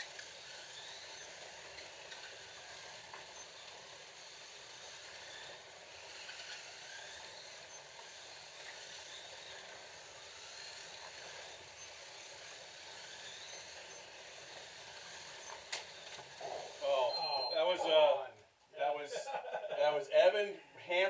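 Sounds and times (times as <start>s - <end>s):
cars hissing on plastic track: 0.0s - 17.1s
slot car motors whining: 0.0s - 17.6s.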